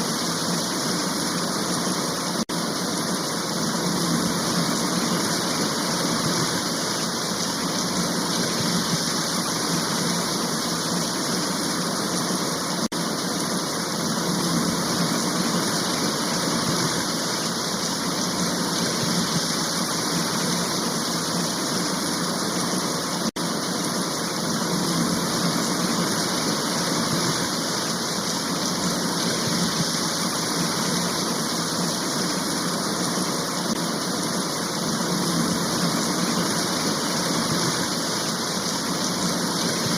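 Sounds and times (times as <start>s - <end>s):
dense rain hiss: 0.0s - 39.9s.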